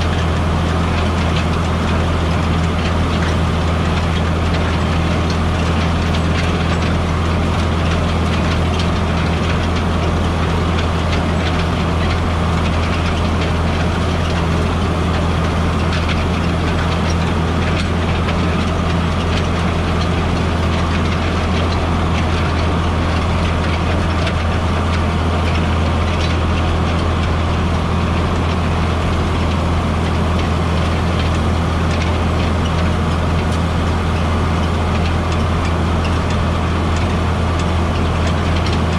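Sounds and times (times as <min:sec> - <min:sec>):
tractor diesel engine humming: 0:00.0 - 0:38.9.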